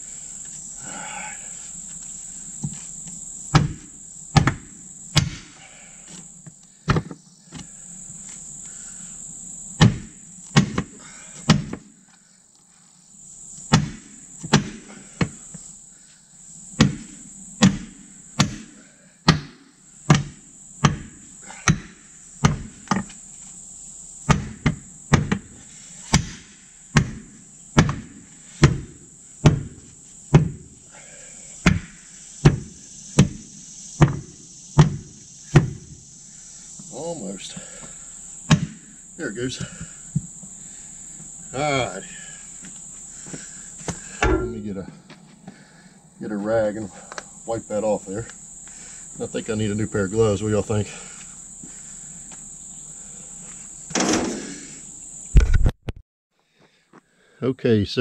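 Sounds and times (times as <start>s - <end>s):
crickets chirring: 0.0s - 55.8s, 56.4s - 58.0s.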